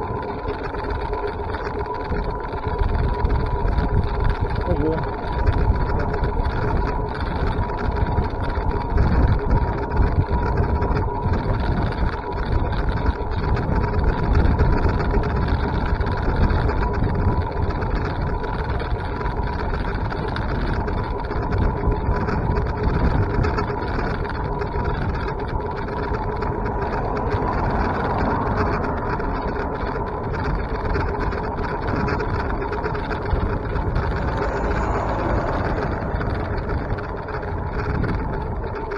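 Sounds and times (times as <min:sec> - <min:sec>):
vehicle rumble: 0:00.0 - 0:38.9.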